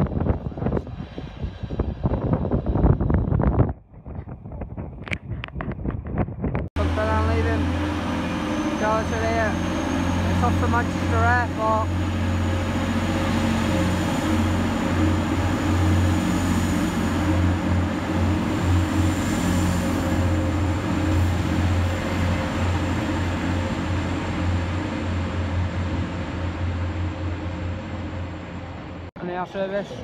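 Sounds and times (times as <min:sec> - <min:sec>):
train rumbling past: 0:00.0 - 0:03.5, 0:06.8 - 0:30.0.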